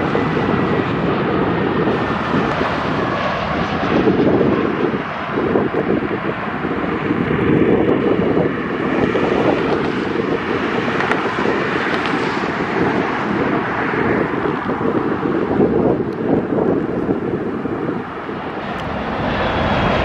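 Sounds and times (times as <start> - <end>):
jet engines rushing: 0.0 - 20.0
wind buffeting microphone: 0.0 - 20.0.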